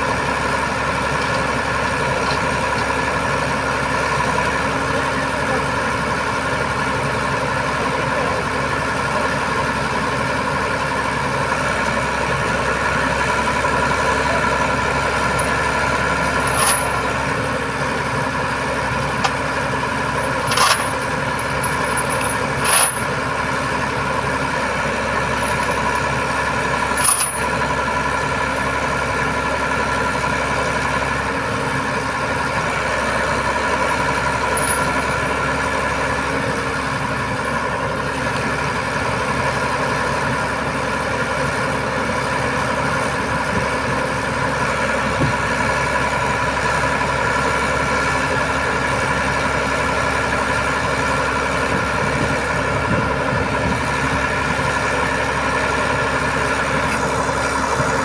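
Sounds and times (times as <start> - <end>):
constant whine: 0.0 - 58.0
diesel engine running: 0.0 - 58.0.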